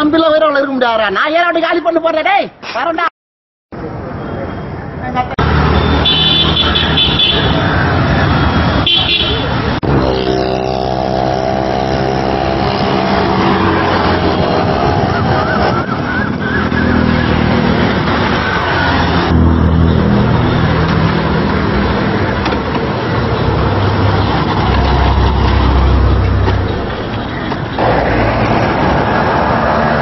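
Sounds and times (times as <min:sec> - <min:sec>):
road traffic: 0:03.7 - 0:30.0.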